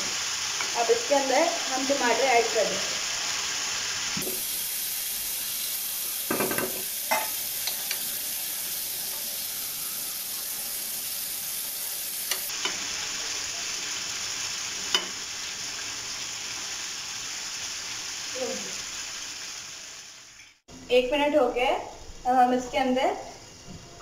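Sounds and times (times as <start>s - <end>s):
chicken sizzling in hot oil: 0.0s - 20.7s.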